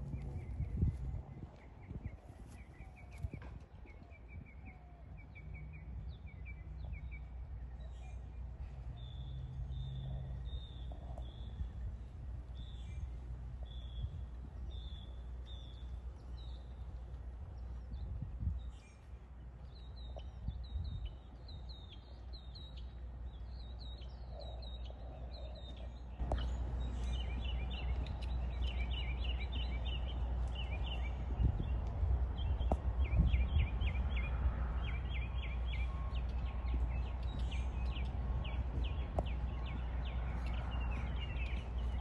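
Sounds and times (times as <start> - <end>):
small birds chirping: 0.0 - 42.0
low background rumble: 4.8 - 42.0.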